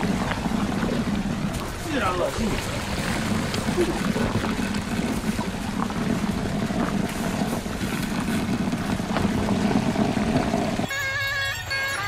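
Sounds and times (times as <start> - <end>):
stone roller rumbling and grinding: 0.0 - 11.3.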